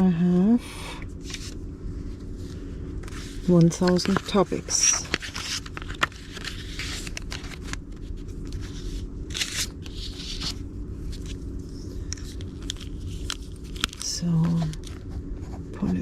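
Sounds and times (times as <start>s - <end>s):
paper rustling: 1.2s - 16.0s.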